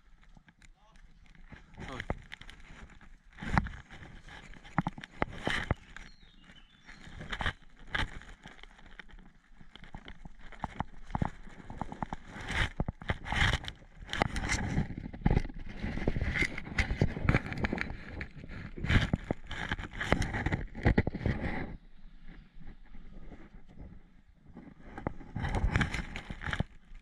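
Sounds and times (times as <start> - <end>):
twigs crunching: 0.0 - 23.8, 24.6 - 27.0
footsteps on dry twigs and leaves: 0.0 - 23.9, 24.6 - 27.0.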